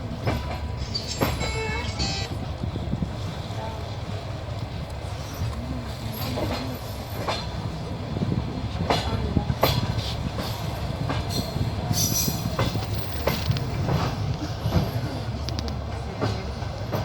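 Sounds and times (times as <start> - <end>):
train rumbling: 0.0 - 17.0
wheels clacking over rail joints: 0.0 - 17.0.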